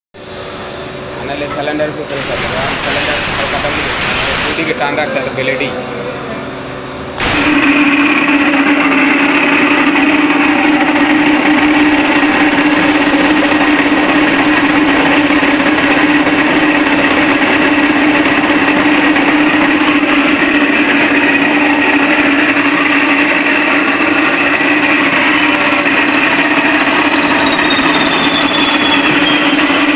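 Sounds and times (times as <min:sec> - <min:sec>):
pipe-cutting machine motor hum: 0:01.6 - 0:05.0, 0:06.8 - 0:29.9.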